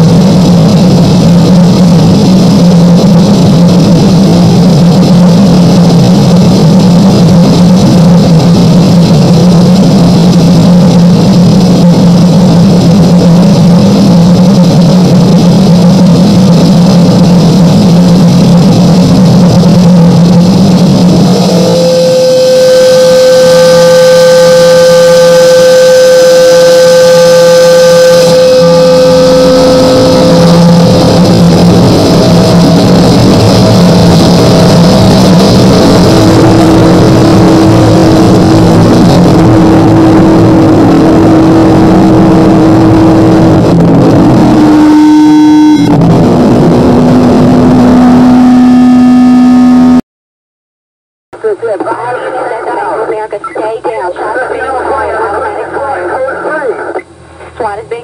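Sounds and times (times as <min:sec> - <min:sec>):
distorted electronic noise: 0:00.0 - 0:50.0, 0:51.5 - 0:58.0
heavy low drone: 0:00.0 - 0:50.0
steady held tone: 0:00.0 - 0:50.0.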